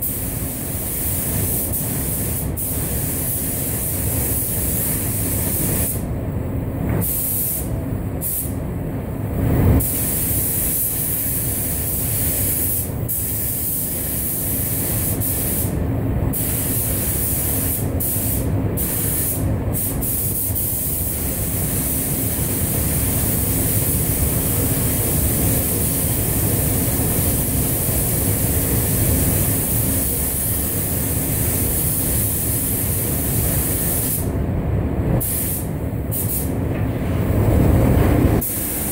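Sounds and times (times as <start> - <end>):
paint spray gun hissing: 0.0 - 6.0, 9.8 - 15.8, 16.4 - 34.3, 35.2 - 36.5, 38.4 - 38.9
ventilation rumble: 0.0 - 38.9.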